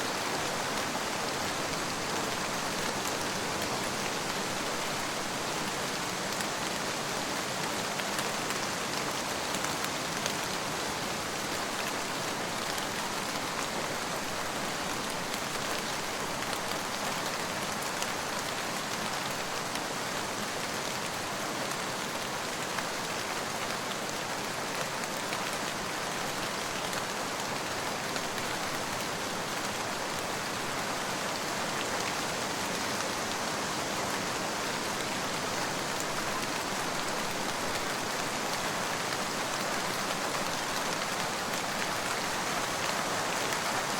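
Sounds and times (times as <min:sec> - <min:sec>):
steady rain pattering: 0:00.0 - 0:43.9.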